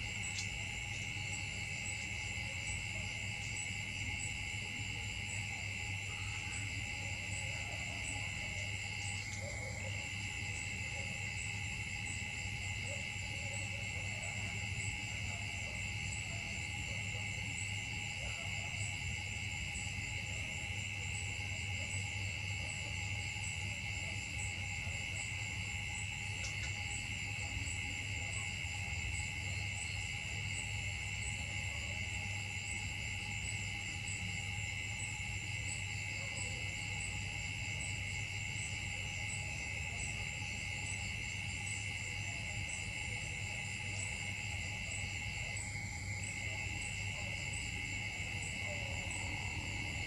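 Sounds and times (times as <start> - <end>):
pulsing insect chirps: 0.0 - 13.7, 18.8 - 50.0
insects droning: 0.0 - 50.0.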